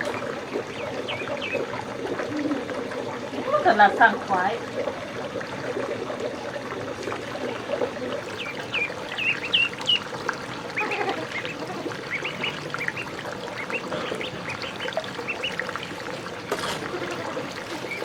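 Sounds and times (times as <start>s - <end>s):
ducks calling: 0.0s - 5.0s, 7.4s - 18.0s
water trickling: 0.0s - 18.0s.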